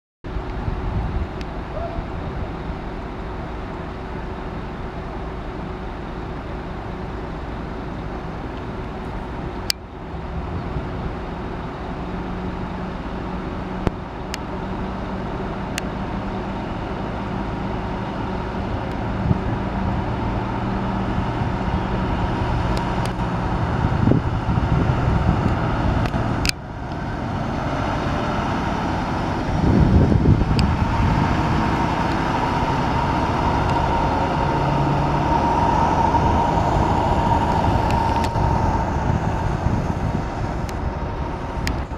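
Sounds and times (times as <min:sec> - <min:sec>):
coach diesel engine driving: 0:00.3 - 0:41.9.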